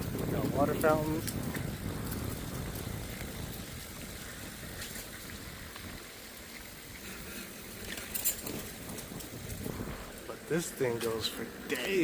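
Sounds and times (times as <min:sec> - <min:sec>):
bicycle rolling noise: 0:00.0 - 0:12.0
wind rumble: 0:00.0 - 0:12.0.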